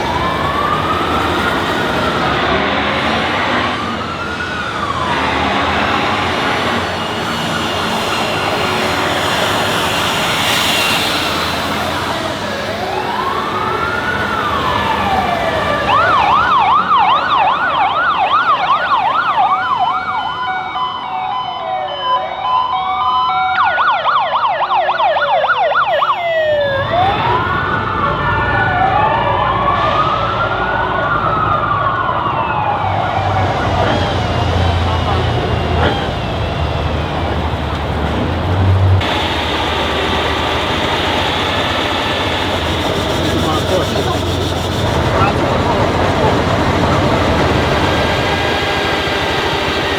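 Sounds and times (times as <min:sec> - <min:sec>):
engine rumble: 0:00.0 - 0:19.9, 0:26.3 - 0:49.9
emergency sirens wailing and yelping: 0:00.0 - 0:49.9.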